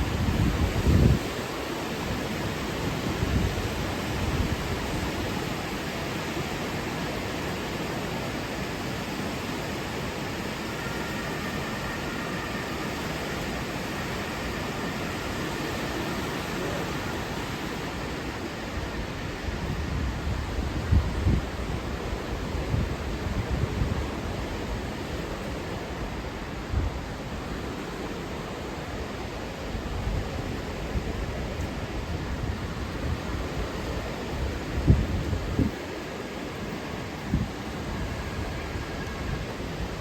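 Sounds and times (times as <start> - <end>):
river rushing: 0.0 - 40.0.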